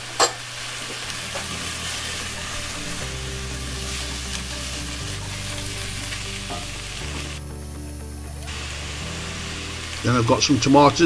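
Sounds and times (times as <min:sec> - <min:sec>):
vegetables sizzling in oil: 0:00.0 - 0:11.0
low background music: 0:01.0 - 0:11.0.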